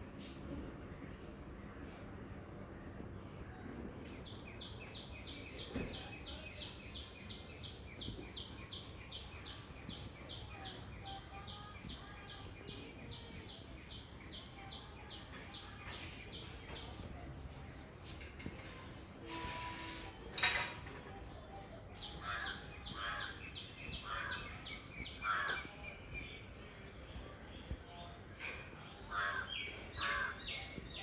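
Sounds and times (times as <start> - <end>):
outdoor background noise: 0.0 - 31.0.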